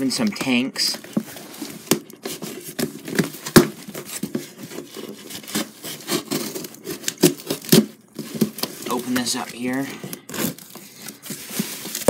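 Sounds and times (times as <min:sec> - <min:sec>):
cardboard box being opened: 0:00.4 - 0:12.0.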